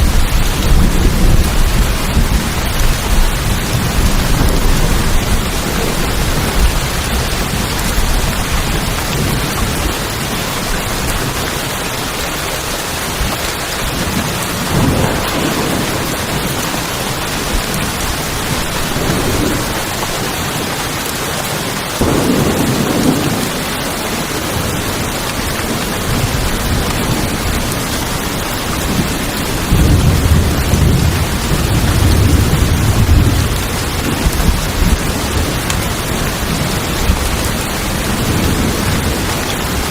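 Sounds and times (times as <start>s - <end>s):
rain on a tin roof: 0.0s - 39.9s
thunder rumbling: 0.0s - 39.9s.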